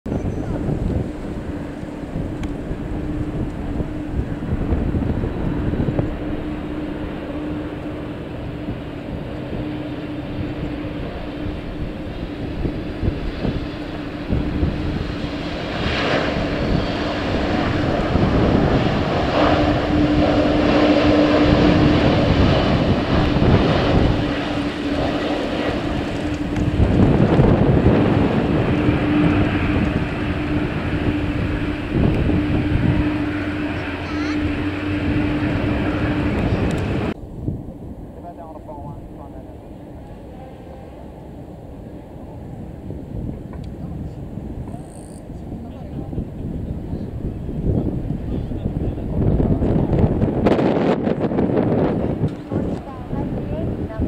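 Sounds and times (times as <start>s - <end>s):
wind rumble on microphone: 0.0s - 54.0s
high engine whine: 0.1s - 54.0s
jet airliner passing overhead: 0.1s - 54.0s.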